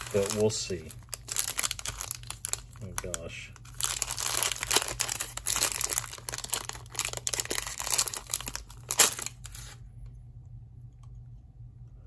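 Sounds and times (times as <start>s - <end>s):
plastic sleeve crinkling: 0.0s - 9.8s.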